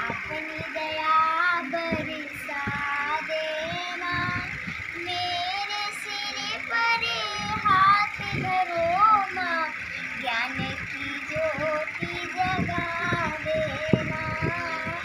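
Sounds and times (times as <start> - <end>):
girl singing devotional song: 0.0 - 15.0.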